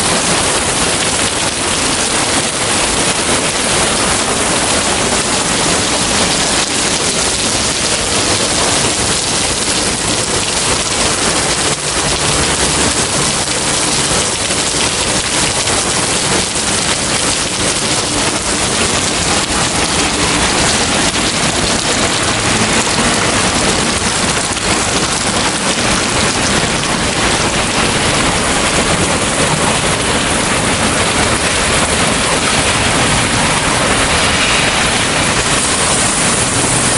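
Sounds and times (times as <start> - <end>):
torrential rain: 0.0 - 36.9.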